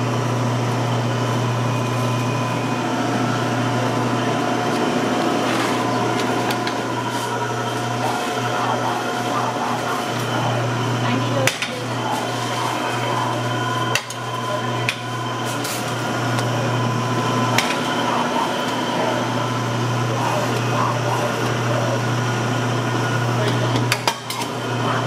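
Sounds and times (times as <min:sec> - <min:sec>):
meat slicer motor humming: 0:00.0 - 0:25.0.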